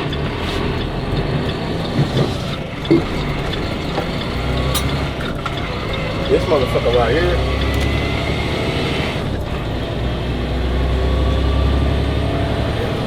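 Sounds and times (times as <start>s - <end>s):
diesel engine hum: 0.0s - 13.0s
road noise: 0.0s - 13.0s.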